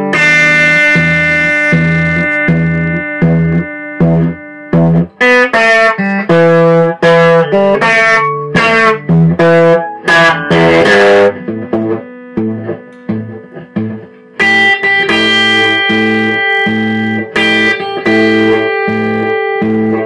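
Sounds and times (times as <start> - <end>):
electric guitar solo: 0.0 - 20.0.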